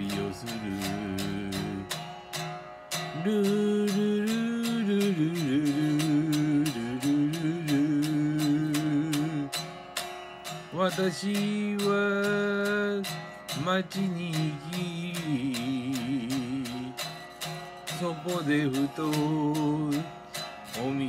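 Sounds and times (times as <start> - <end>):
man singing: 0.0 - 2.1, 3.0 - 9.8, 10.6 - 21.0
electric guitar strumming: 0.0 - 21.0.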